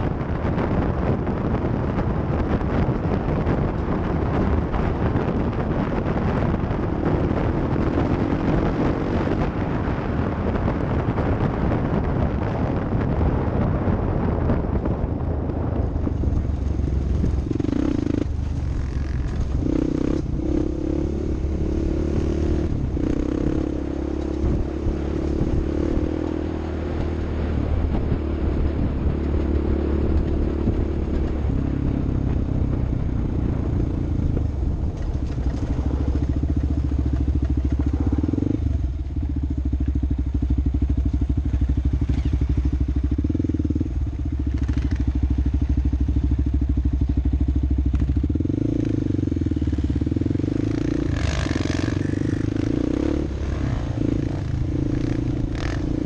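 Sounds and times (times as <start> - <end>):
dense rushing noise: 0.0 - 39.3, 49.0 - 56.0
off-road vehicle engine running: 0.0 - 56.0.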